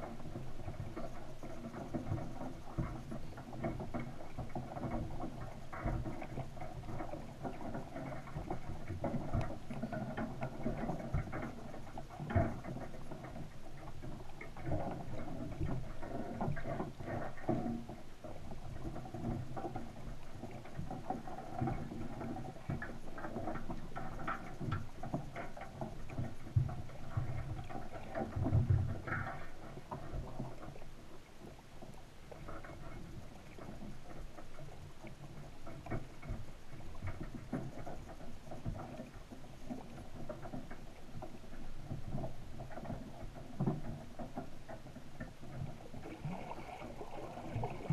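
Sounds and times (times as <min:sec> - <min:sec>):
underwater crackle of clicks: 0:00.0 - 0:47.9
underwater knocks: 0:00.0 - 0:47.9.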